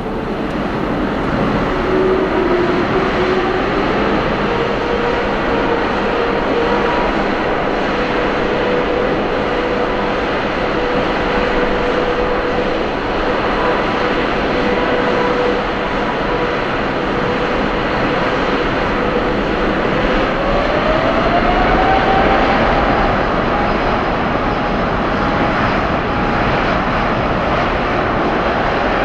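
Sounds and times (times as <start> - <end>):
jet engines roaring and whining: 0.0 - 29.0.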